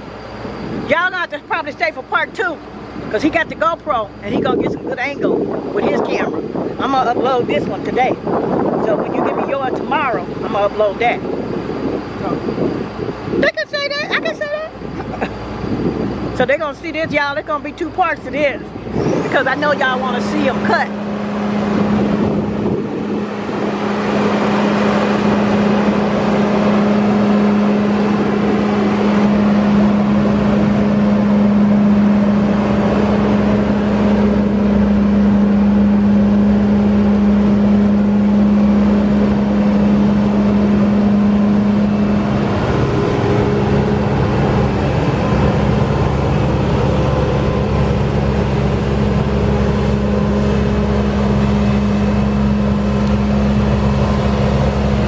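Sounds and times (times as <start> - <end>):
deeper rumble: 0.0 - 55.0
farm machine engine running: 0.0 - 55.0.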